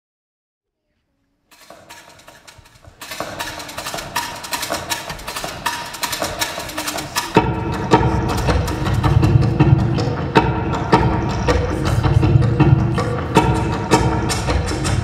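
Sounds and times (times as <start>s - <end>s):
percussion music of wooden clicks: 1.5s - 15.0s
deep drum: 2.9s - 15.0s.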